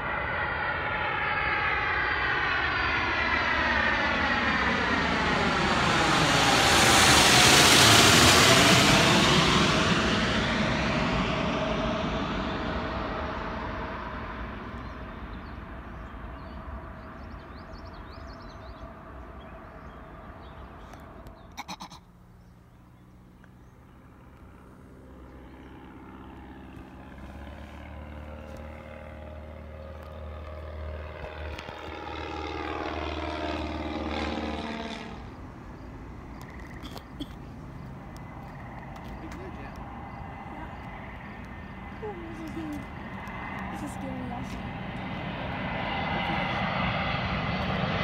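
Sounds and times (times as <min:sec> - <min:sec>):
jet passing overhead: 0:00.0 - 0:21.5, 0:23.1 - 0:48.0
propeller plane engine buzz: 0:00.0 - 0:48.0.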